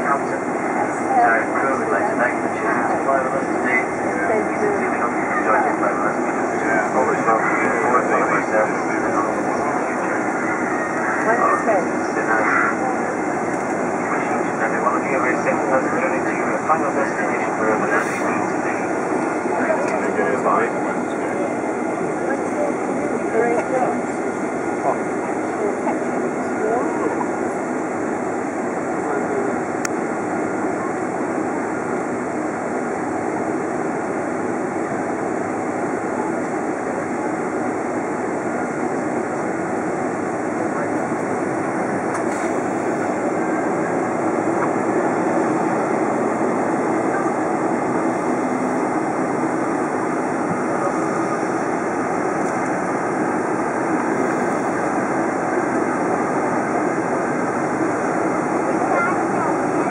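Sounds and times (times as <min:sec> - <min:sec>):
aircraft cabin rumble and hiss: 0:00.0 - 0:59.9.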